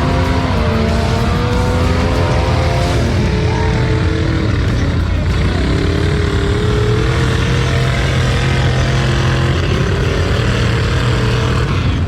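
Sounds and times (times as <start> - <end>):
truck engine at high revs: 0.0 - 12.0.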